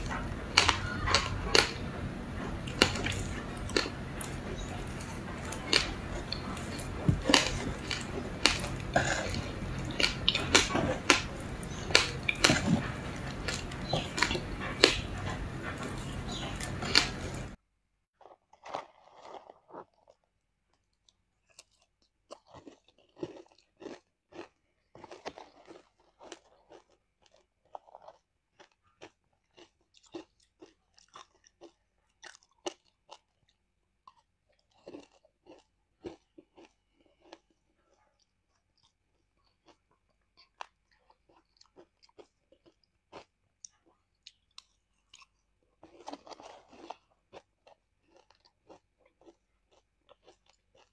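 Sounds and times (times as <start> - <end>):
ice being chewed: 0.0 - 17.6, 18.2 - 50.9.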